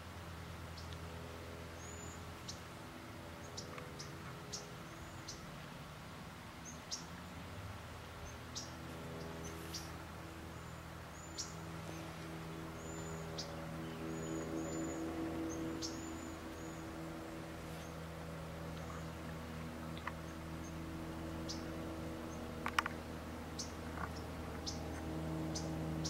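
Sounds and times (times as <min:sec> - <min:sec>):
steady low hum: 0:00.0 - 0:26.0
small birds chirping: 0:03.4 - 0:05.8, 0:06.6 - 0:07.5, 0:08.2 - 0:26.0.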